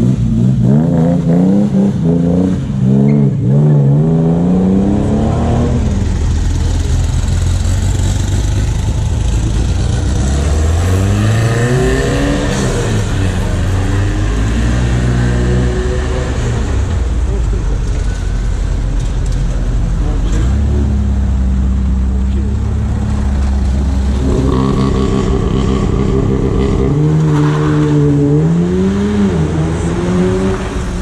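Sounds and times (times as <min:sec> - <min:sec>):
car accelerating away: 0:00.0 - 0:31.0
car engine revving: 0:00.0 - 0:31.0.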